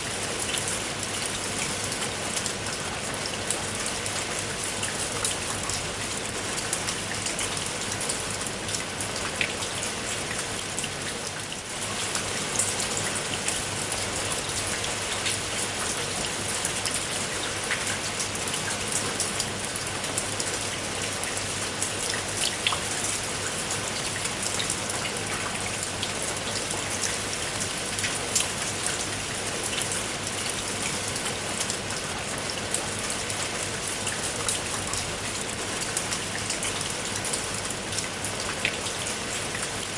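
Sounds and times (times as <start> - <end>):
raindrops pattering on a surface: 0.0 - 39.9.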